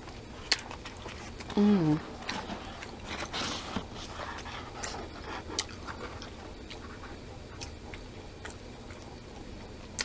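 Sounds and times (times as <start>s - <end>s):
people chewing: 0.0s - 10.0s.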